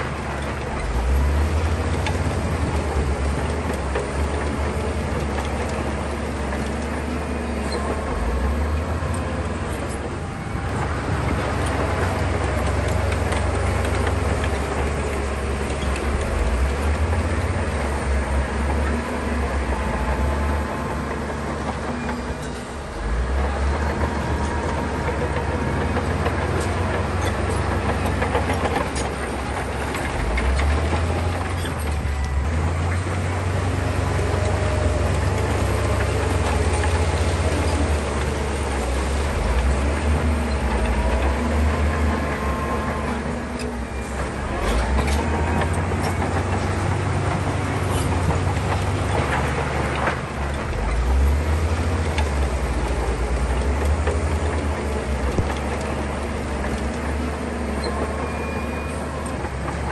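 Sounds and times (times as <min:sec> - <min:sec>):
diesel engines rumbling: 0:00.0 - 0:59.9.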